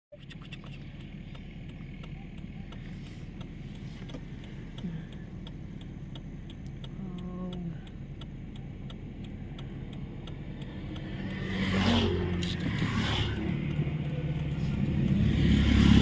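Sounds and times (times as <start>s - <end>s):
car road rumble: 0.1s - 16.0s
faint regular ticking: 0.2s - 16.0s.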